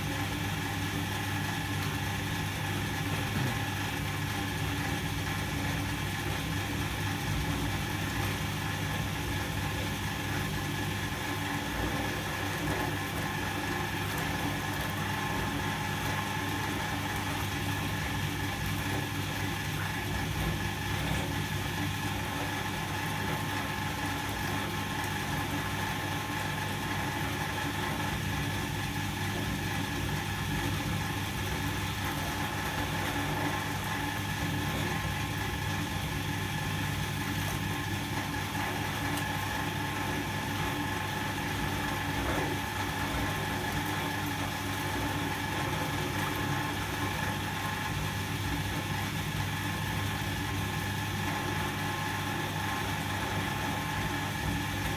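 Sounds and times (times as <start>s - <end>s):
washing machine running: 0.0s - 54.9s.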